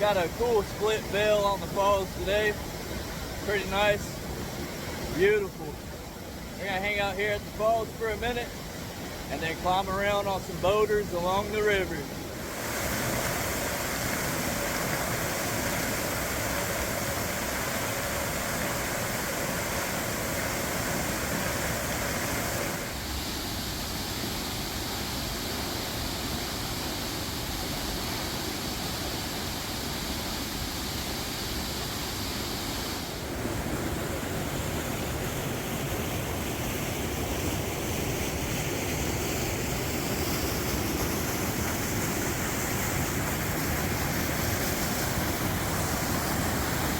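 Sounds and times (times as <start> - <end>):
waterfall rushing and splashing: 0.0 - 46.9.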